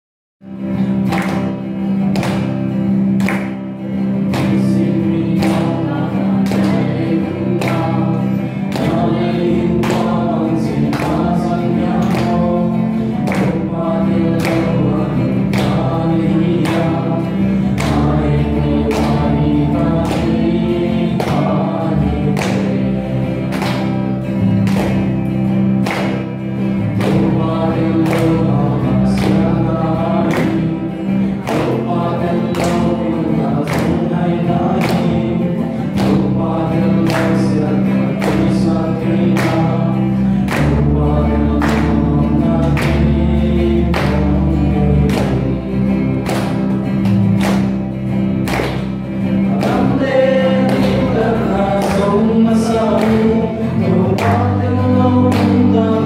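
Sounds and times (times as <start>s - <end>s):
guitar strumming: 0.4s - 56.0s
man singing: 4.2s - 23.9s, 26.8s - 46.6s, 49.2s - 56.0s.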